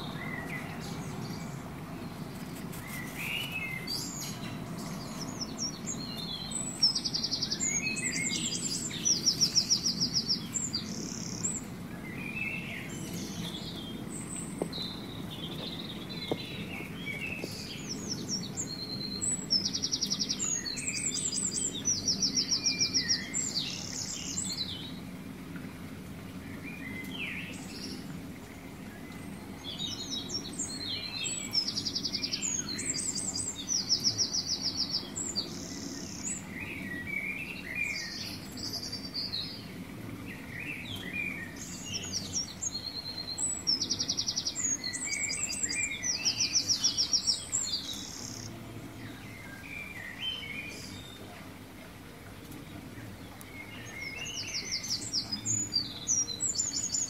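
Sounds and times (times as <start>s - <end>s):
small birds chirping and trilling: 0.0s - 25.6s, 26.3s - 57.0s
low steady background noise: 0.0s - 57.0s.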